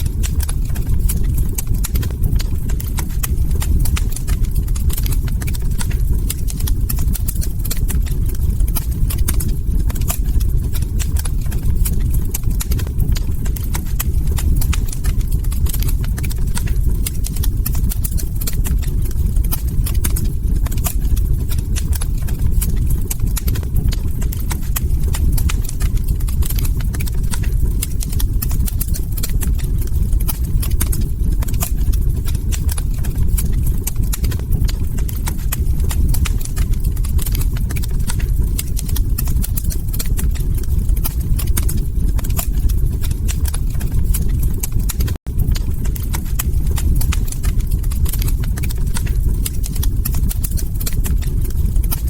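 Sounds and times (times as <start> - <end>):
log fire crackling: 0.0 - 52.0
steady low rumble: 0.0 - 52.0.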